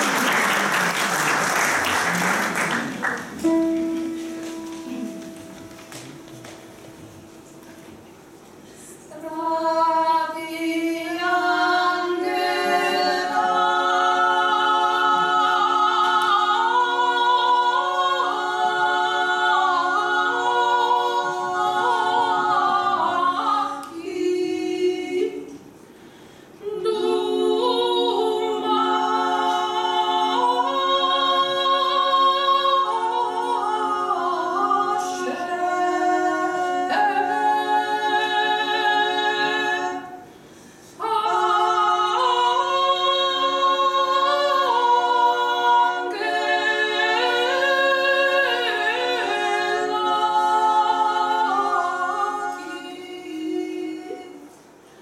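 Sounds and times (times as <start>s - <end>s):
women's choir singing a cappella: 8.6s - 55.0s.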